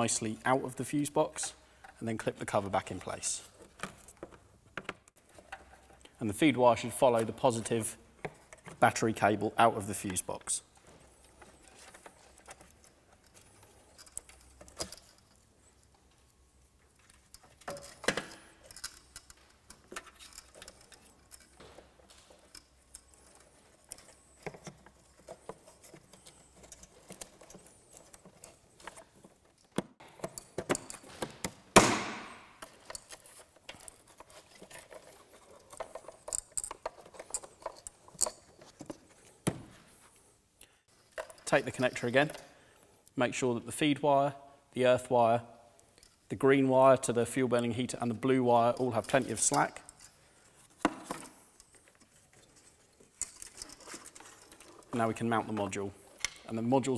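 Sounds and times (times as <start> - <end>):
hands handling plastic parts: 0.0 - 43.2, 45.7 - 56.9.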